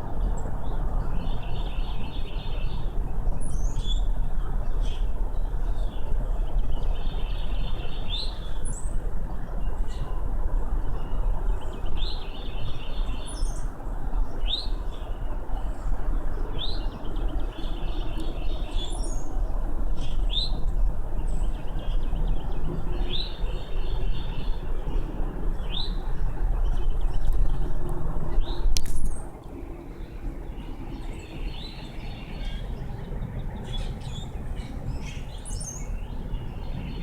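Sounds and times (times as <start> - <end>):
songbird singing: 0.0 - 37.0
steady low rumble: 0.0 - 37.0.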